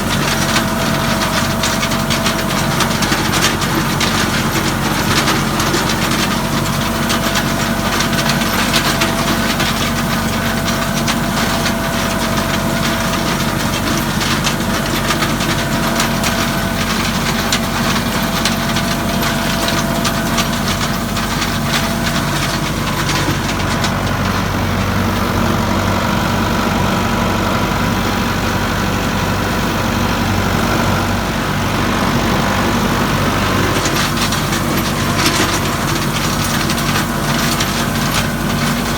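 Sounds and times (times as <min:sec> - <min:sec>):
hay machinery rattling: 0:00.0 - 0:38.9
tractor engine running: 0:00.0 - 0:38.9.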